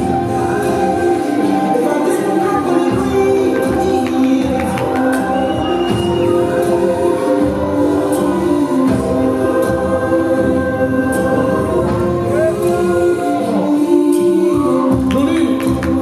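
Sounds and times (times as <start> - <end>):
choral voices singing: 0.0 - 16.0.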